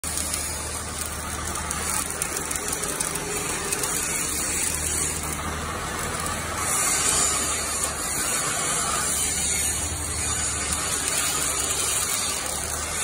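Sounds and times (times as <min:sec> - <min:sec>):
arc welding sizzling hiss: 0:00.0 - 0:13.0.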